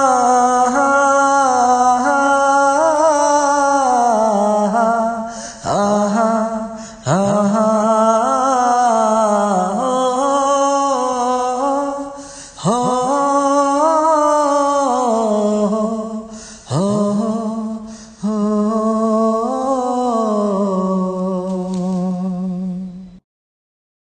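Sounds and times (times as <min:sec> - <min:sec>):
man singing wordlessly: 0:00.0 - 0:23.0.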